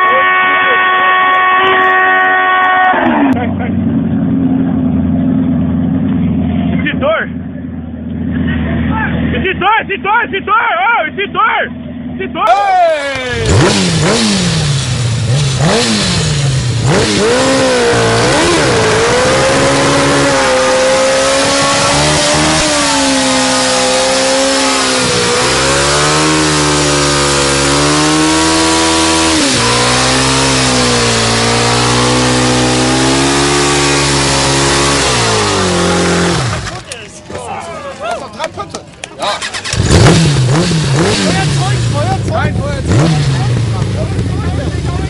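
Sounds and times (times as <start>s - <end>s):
motorcycle engine revving: 0.0s - 9.5s, 13.0s - 36.9s, 39.2s - 45.0s.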